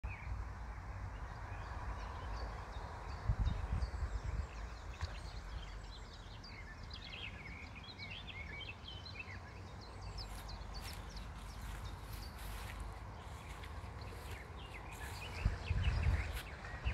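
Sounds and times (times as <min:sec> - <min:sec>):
small birds chirping: 0:00.1 - 0:16.9
wind rumble on microphone: 0:00.1 - 0:16.9.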